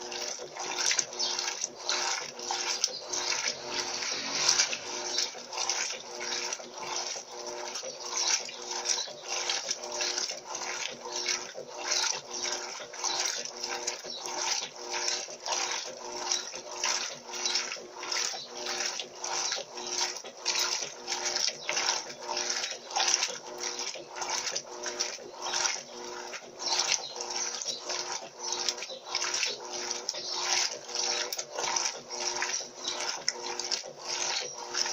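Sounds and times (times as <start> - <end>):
washing machine motor hum: 0.0 - 34.9
water and cloth sloshing: 0.0 - 34.9.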